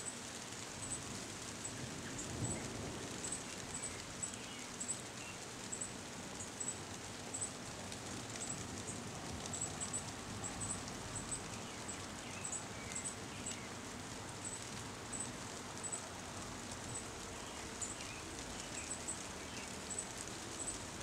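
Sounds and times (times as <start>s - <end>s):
leaves rustling in breeze: 0.0s - 21.0s
rain on foliage: 0.0s - 21.0s.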